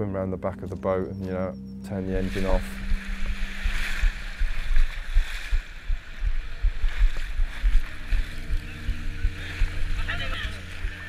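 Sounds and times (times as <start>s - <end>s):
outboard motor humming: 0.0s - 6.0s, 7.3s - 11.0s
wind buffeting microphone: 2.0s - 11.0s.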